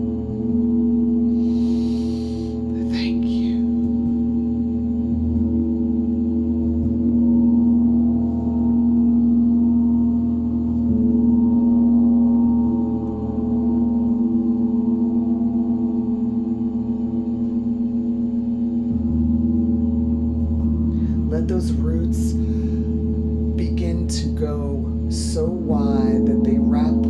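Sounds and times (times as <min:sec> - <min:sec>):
gong ringing with deep drone: 0:00.0 - 0:27.0.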